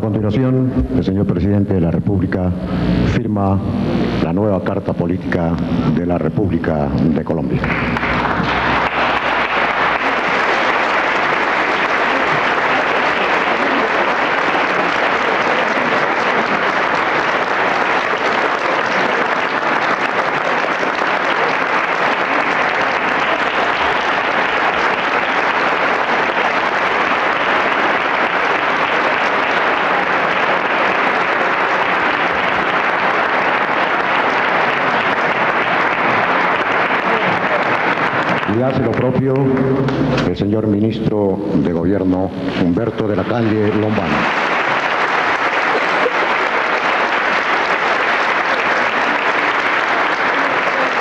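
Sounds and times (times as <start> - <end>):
crowd applauding: 7.3 - 51.0.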